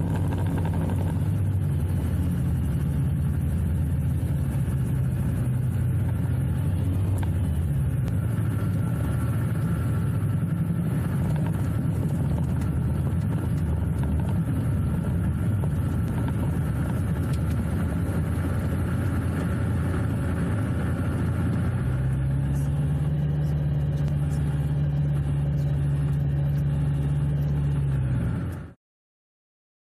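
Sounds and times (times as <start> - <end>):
aircraft engine running: 0.0 - 28.8.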